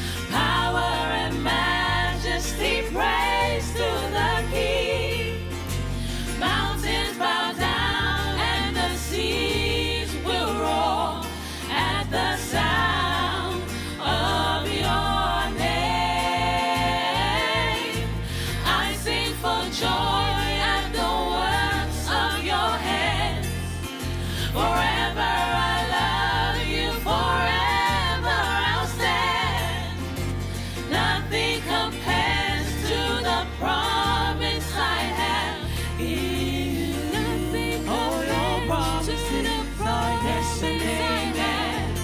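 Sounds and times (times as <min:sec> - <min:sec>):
choir singing gospel: 0:00.0 - 0:42.0.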